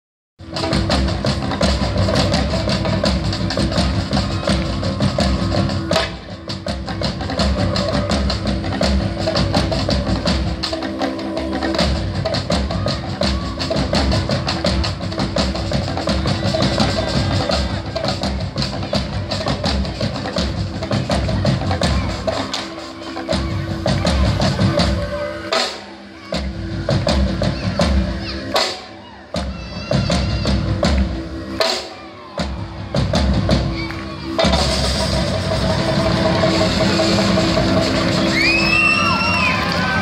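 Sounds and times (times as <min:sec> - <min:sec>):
drum kit beat: 0:00.4 - 0:28.8, 0:29.4 - 0:40.0.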